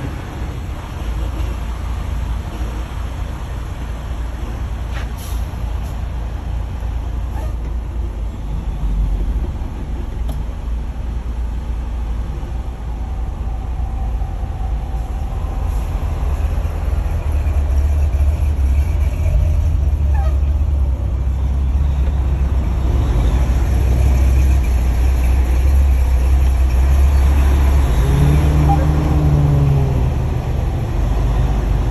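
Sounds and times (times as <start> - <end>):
diesel engine rumble: 0.0 - 31.9
road noise: 0.0 - 31.9.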